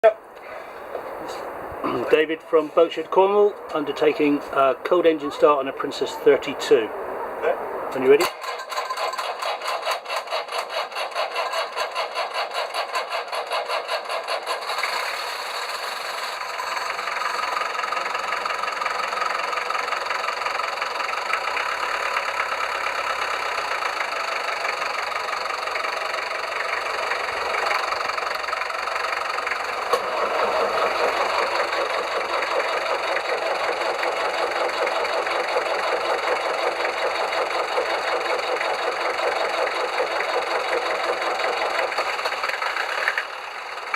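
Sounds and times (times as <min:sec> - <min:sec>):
boat engine idling: 0:00.1 - 0:43.9
engine starter cranking: 0:08.0 - 0:43.9.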